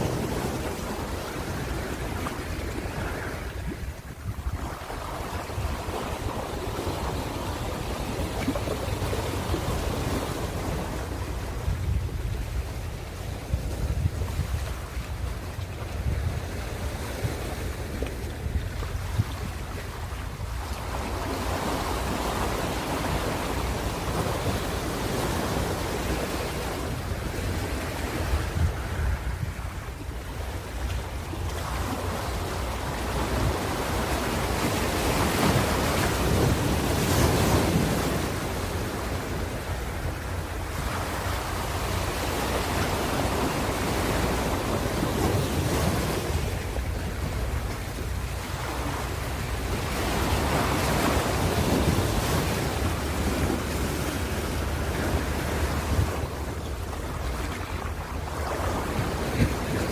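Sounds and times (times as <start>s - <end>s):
constant low rumble: 0.0s - 59.9s
ocean waves washing: 0.0s - 59.9s.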